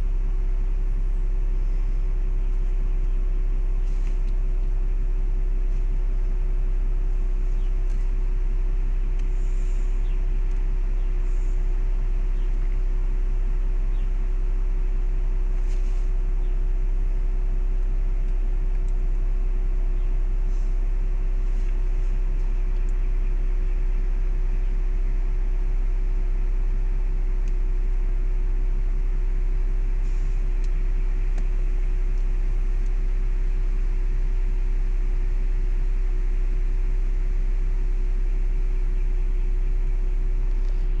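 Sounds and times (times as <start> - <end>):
car engine idling inside cabin: 0.0 - 41.0
ventilation fan running: 0.0 - 41.0.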